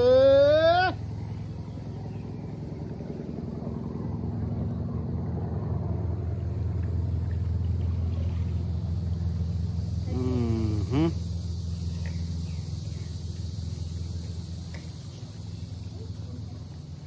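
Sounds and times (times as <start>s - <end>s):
motorboat engine humming: 0.0s - 17.0s.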